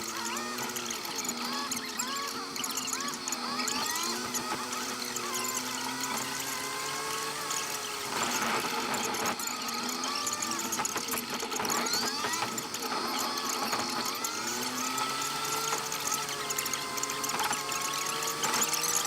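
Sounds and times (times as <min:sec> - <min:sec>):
car engine squealing and whining: 0:00.0 - 0:19.0.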